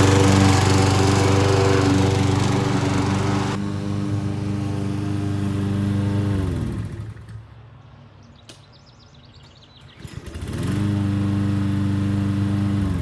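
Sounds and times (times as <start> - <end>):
lawn mower engine pull-start: 0.0 - 7.6, 9.8 - 13.0
lawn mower engine running: 0.0 - 7.6, 9.9 - 13.0.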